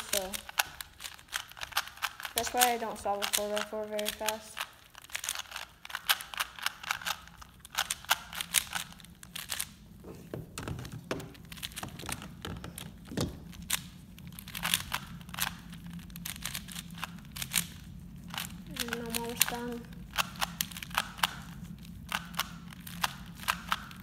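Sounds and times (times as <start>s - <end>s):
puzzle cube layers clicking: 0.0s - 24.0s.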